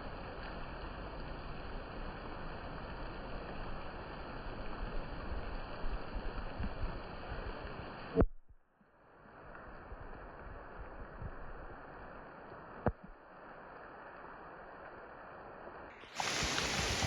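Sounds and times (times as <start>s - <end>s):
light rain falling: 0.0s - 8.2s, 9.0s - 17.0s.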